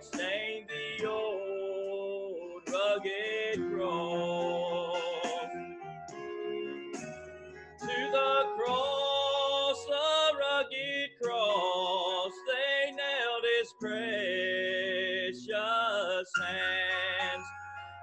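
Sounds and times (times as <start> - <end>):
gospel hymn music: 0.0 - 18.0.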